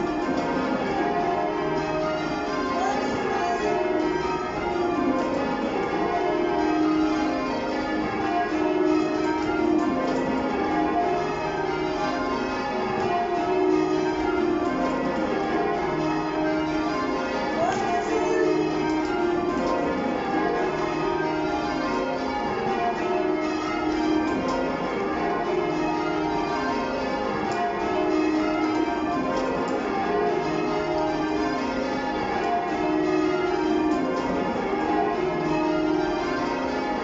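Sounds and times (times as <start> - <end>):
church bells change ringing: 0.0 - 37.0.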